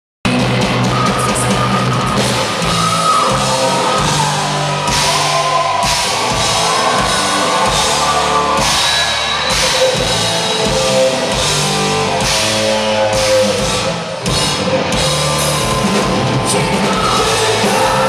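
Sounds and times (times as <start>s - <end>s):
hard rock band playing live: 0.3s - 18.0s.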